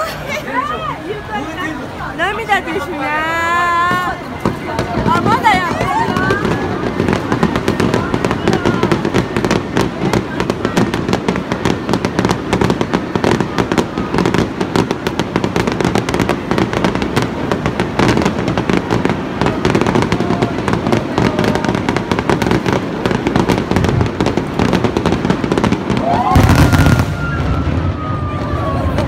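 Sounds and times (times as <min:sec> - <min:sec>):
fireworks crackling and popping: 0:00.0 - 0:29.0
loud rush: 0:03.1 - 0:29.0.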